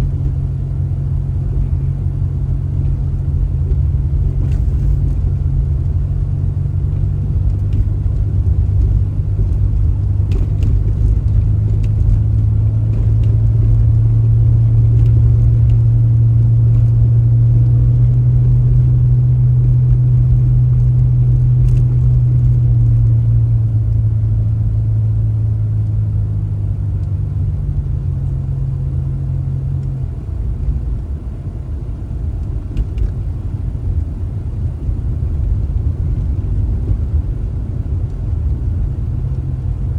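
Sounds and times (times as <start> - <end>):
motor vehicle low drone: 0.0 - 39.9.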